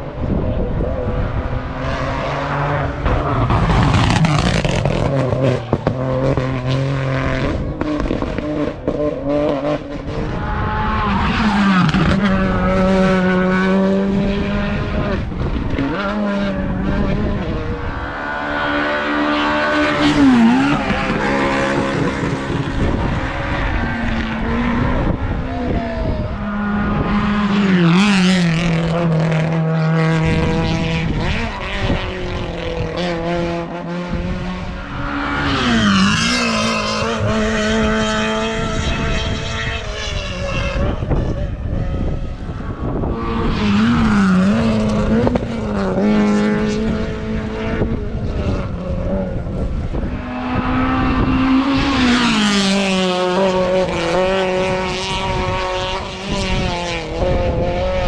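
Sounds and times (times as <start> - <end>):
race car engines at full throttle: 0.0 - 58.0.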